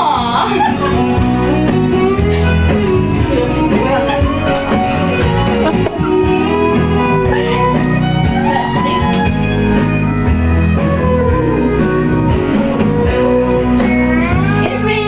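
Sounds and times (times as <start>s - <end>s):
bass: 0.0s - 15.0s
drums: 0.0s - 15.0s
guitar: 0.0s - 15.0s.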